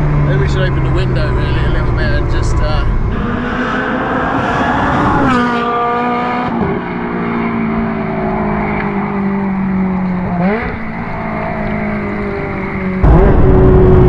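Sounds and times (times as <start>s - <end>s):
sports car engine passing: 0.0s - 14.0s.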